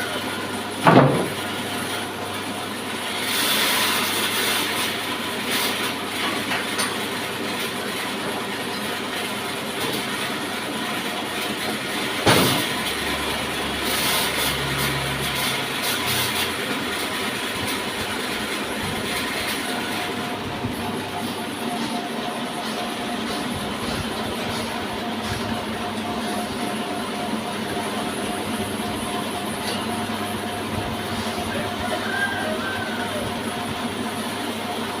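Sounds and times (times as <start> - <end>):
band saw mill rattling: 0.0 - 35.0.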